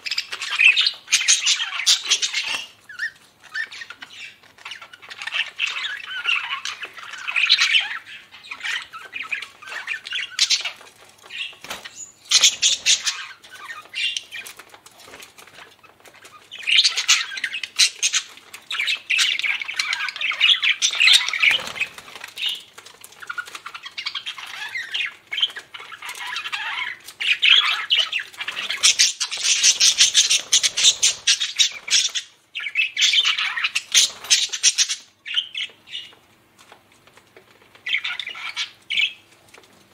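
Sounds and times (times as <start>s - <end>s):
budgerigars chattering: 0.0s - 14.5s, 16.4s - 36.2s, 37.8s - 39.2s.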